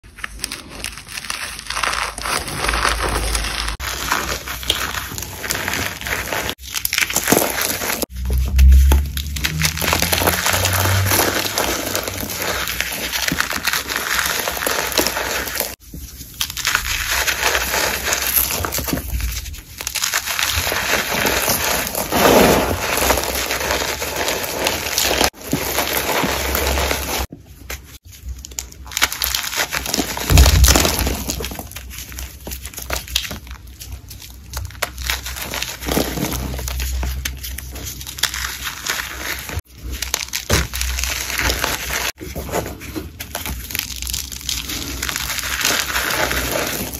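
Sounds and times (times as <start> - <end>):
chalk crunching by hand: 0.0 - 46.9.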